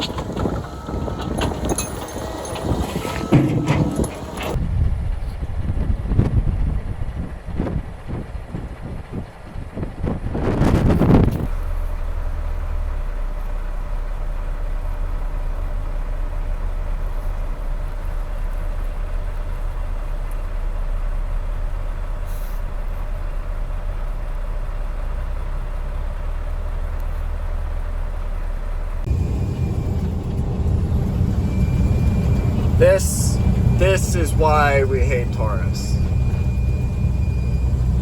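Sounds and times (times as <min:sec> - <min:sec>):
diesel truck engine droning: 0:00.0 - 0:38.0.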